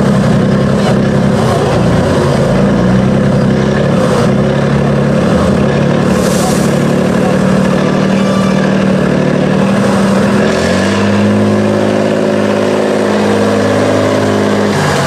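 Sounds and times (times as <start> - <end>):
truck diesel engine working hard: 0.0 - 15.0.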